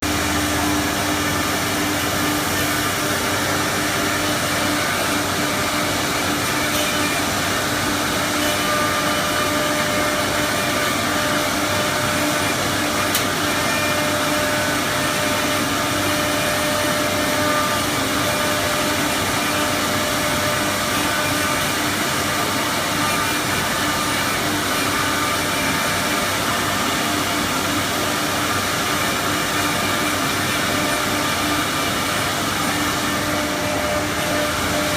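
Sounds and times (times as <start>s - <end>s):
cnc router running: 0.0s - 34.9s.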